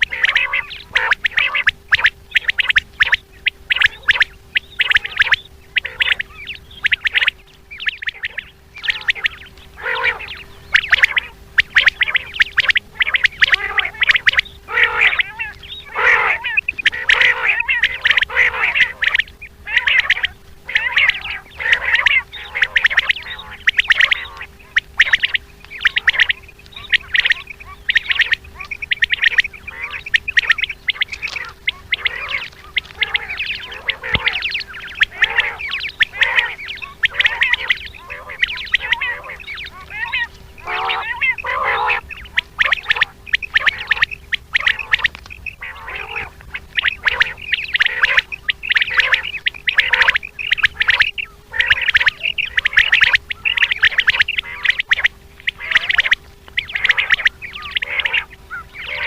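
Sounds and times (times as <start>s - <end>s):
quails calling: 0.0s - 59.0s.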